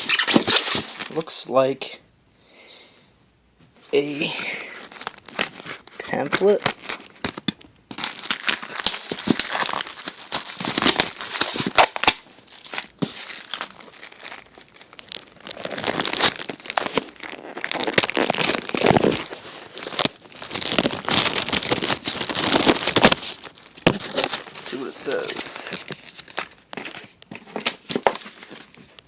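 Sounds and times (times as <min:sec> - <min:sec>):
paper and packaging crinkling: 0:00.0 - 0:01.3, 0:04.0 - 0:29.0.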